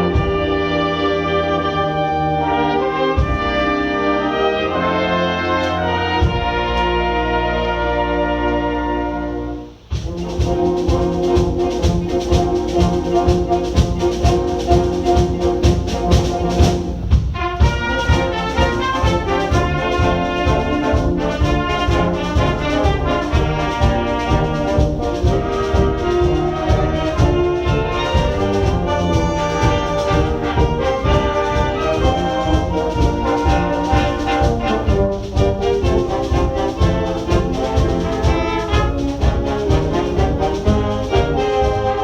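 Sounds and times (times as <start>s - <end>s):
driving percussion beat: 0.0s - 1.9s, 2.6s - 7.4s, 9.7s - 42.0s
brass chords: 0.0s - 42.0s.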